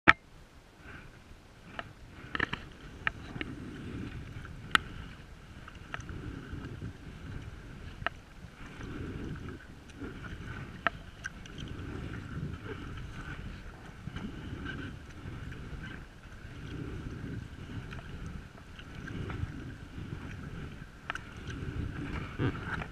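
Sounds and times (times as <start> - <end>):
paddle swishing through water: 0.4 - 22.9.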